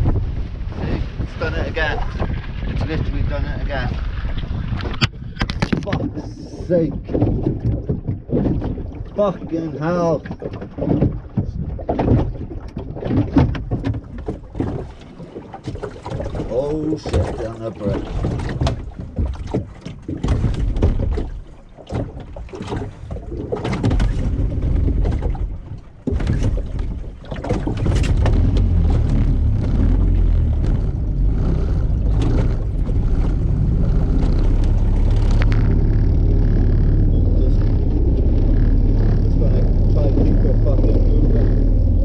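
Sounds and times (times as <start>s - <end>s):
wind noise: 0.0s - 9.2s, 10.2s - 42.0s
outboard motor running: 0.0s - 42.0s.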